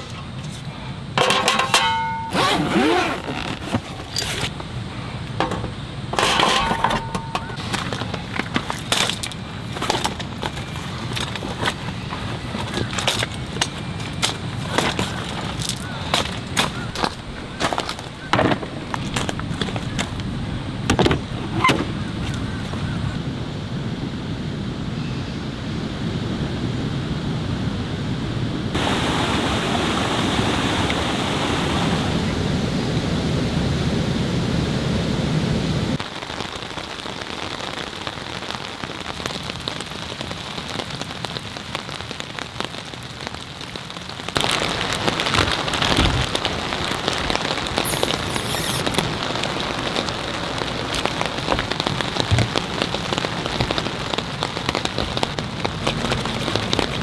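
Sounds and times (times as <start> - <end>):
heavy rain pouring: 0.0 - 24.9, 26.2 - 57.0.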